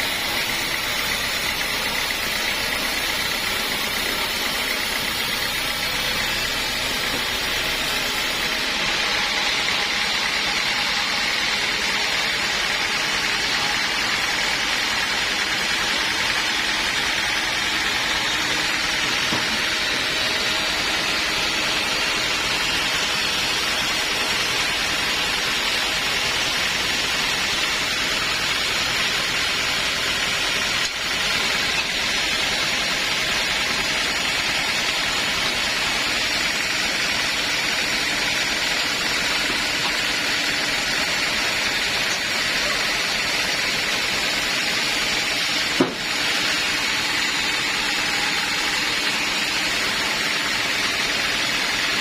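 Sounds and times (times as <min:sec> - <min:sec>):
saw cutting wood: 0:00.0 - 0:52.0.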